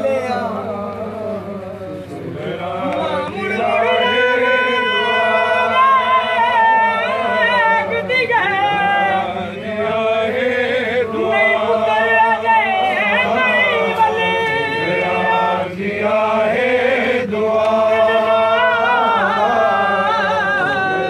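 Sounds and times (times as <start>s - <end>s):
voices chanting a lament: 0.0s - 21.0s.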